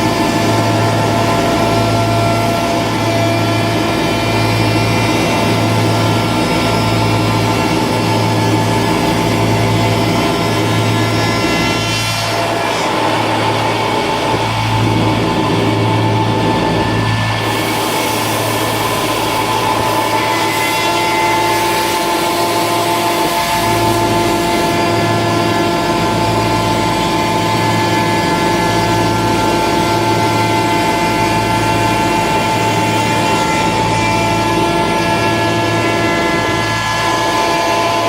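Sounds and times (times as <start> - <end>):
cnc router whining: 0.0 - 38.0.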